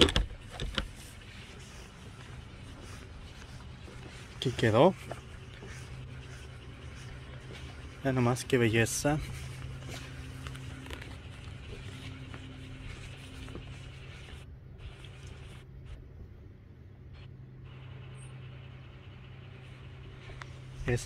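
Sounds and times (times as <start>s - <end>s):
faint outdoor background: 0.0s - 21.0s
low mechanical hum: 0.0s - 21.0s.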